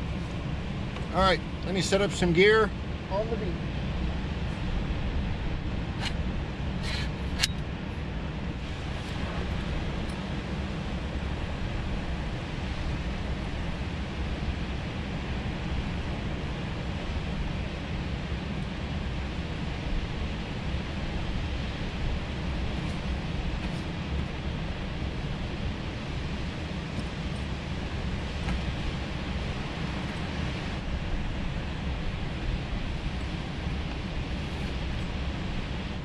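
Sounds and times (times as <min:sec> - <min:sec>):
surf roaring: 0:00.0 - 0:36.0
wind: 0:00.0 - 0:36.0.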